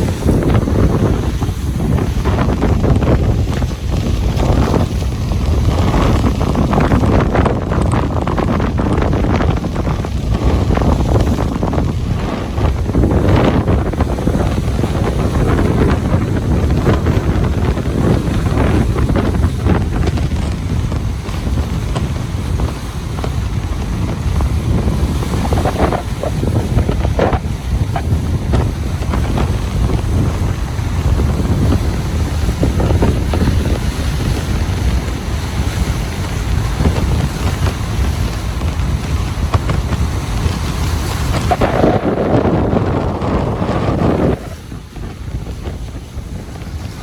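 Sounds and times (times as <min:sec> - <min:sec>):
ocean surf breaking on beach: 0:00.0 - 0:47.0
wind buffeting microphone: 0:00.0 - 0:47.0.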